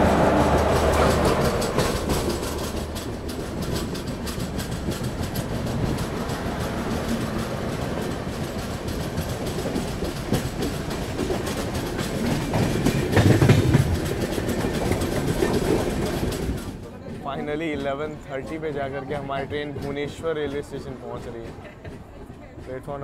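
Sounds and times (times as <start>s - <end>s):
passing train: 0.0s - 23.0s
train rumble: 0.0s - 23.0s
wheels clattering over rail joints: 0.0s - 23.0s.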